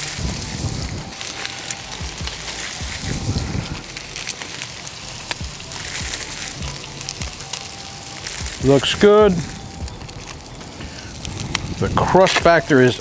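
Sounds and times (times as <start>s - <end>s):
fat crackling pops: 0.0s - 13.0s
low rumbling: 0.0s - 13.0s
patties sizzling on griddle: 0.0s - 13.0s.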